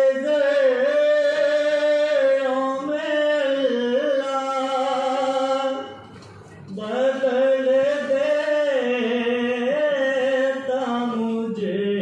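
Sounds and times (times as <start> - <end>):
man singing unaccompanied: 0.0 - 6.0, 6.7 - 12.0.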